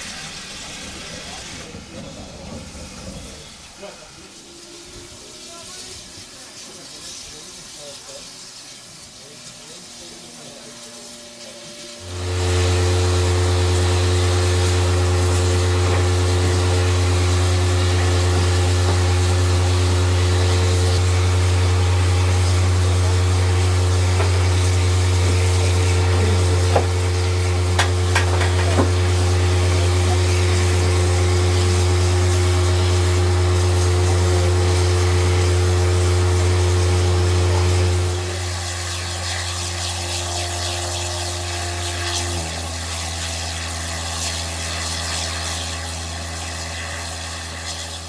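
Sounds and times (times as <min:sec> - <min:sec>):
machinery low drone: 0:00.0 - 0:05.9, 0:09.2 - 0:46.1.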